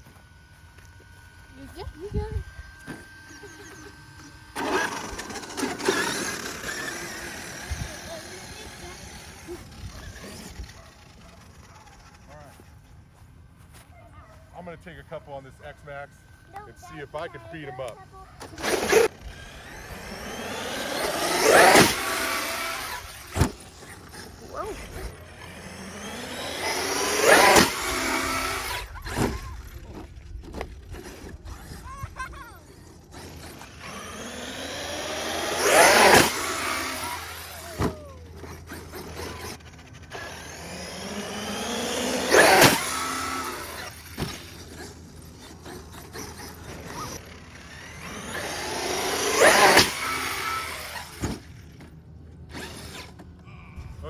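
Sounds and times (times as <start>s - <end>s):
electric motor whining: 0.0s - 13.2s, 14.6s - 54.0s.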